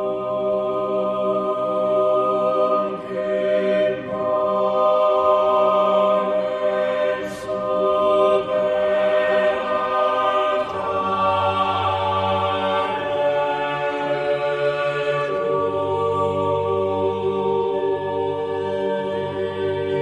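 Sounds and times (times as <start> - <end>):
choral chanting: 0.0 - 20.0.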